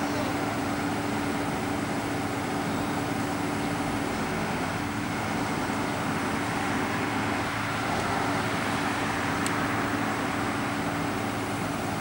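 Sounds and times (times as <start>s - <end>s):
cars passing: 0.0s - 12.0s
truck engine idling: 0.0s - 12.0s.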